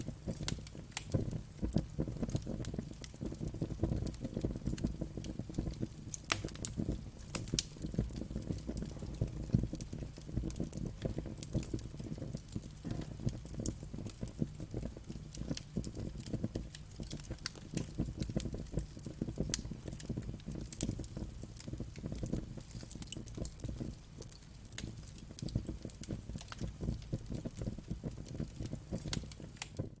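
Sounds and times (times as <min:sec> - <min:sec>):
fire crackling and popping: 0:00.0 - 0:30.0
fire flames rumbling: 0:00.0 - 0:30.0.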